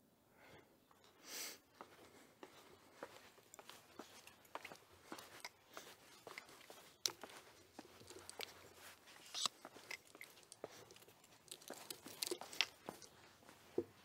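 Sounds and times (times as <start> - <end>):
footstep crunches and clicks: 1.8 - 13.9.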